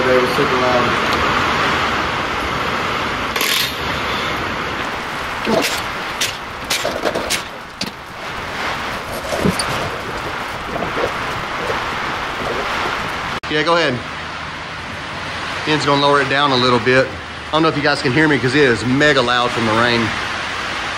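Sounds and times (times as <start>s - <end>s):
heavy rain hissing: 0.0s - 20.9s.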